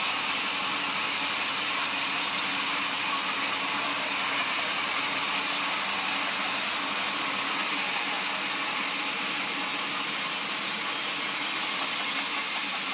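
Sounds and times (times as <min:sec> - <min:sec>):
sawmill machinery hissing: 0:00.0 - 0:12.9.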